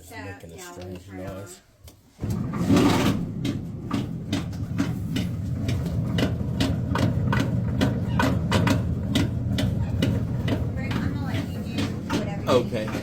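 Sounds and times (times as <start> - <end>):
clothes dryer humming: 2.1 - 13.0
rhythmic knocking: 2.2 - 13.0.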